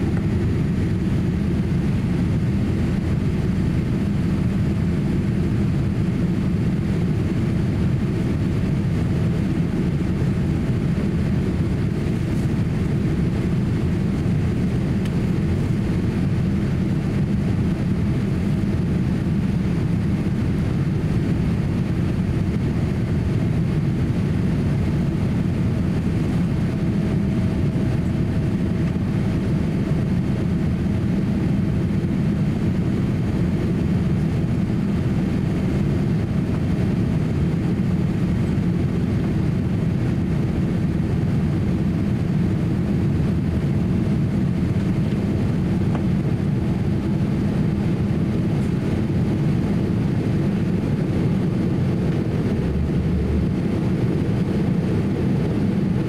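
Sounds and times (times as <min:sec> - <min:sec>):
faint steady hum: 0:00.0 - 0:56.0
jet engine cabin drone: 0:00.0 - 0:56.0.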